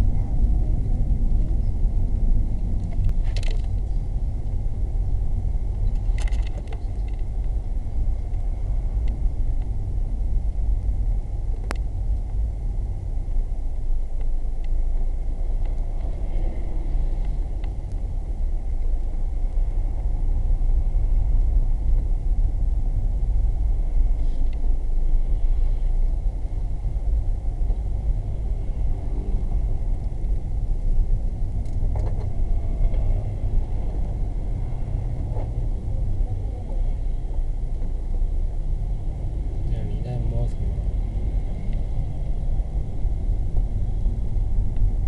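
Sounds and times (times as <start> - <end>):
car driving rumble: 0.0 - 45.0.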